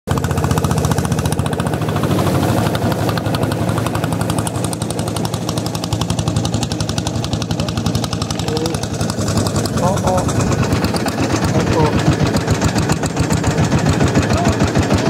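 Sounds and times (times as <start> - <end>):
motorboat engine running: 0.1 - 15.0.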